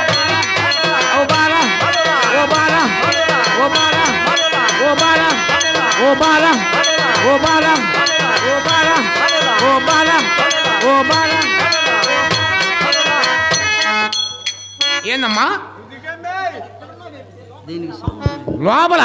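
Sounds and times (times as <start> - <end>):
swooping folk melody: 0.0 - 15.4
drum with rattling jingles: 0.0 - 15.6.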